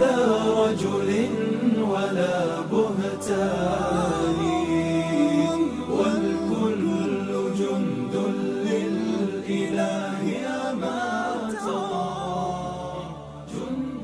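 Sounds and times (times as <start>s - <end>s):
voices chanting: 0.0s - 14.0s.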